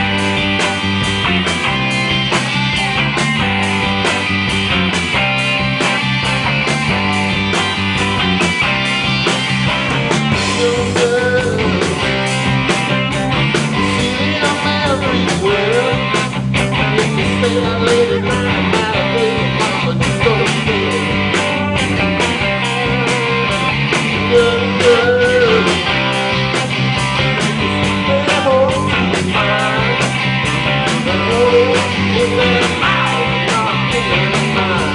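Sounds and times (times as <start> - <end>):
drums keeping a steady beat: 0.0 - 34.9
live rock band playing: 0.0 - 34.9.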